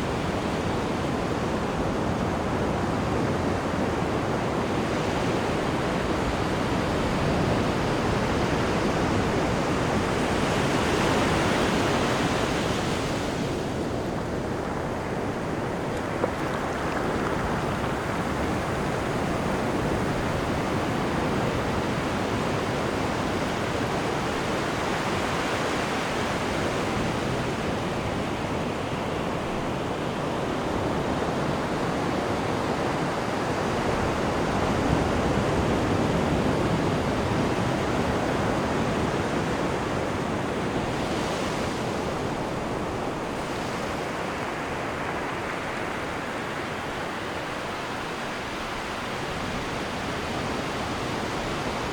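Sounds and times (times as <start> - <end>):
churning sea water rushing: 0.0 - 51.9.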